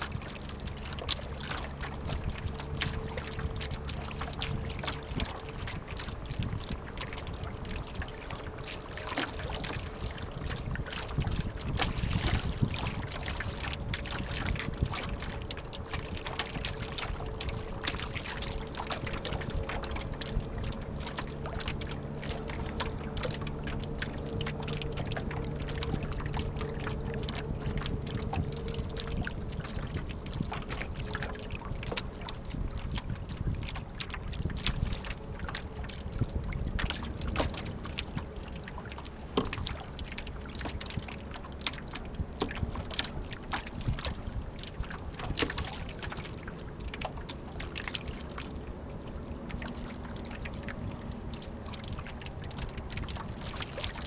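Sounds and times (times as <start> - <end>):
low steady hum: 0.0 - 54.0
rush of water and wind: 0.0 - 54.0
water splashing against hull: 0.0 - 54.0.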